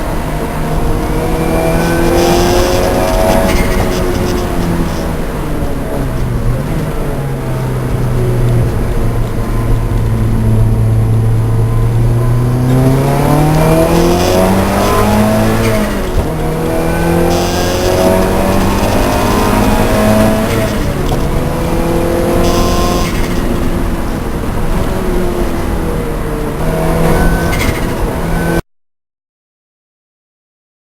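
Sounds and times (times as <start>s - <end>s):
racing car engine revving: 0.0s - 28.6s.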